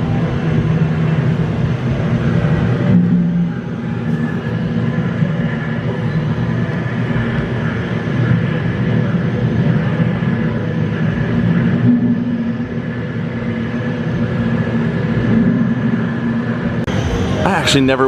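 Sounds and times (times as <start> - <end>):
low rumble with droning hum: 0.0 - 18.0.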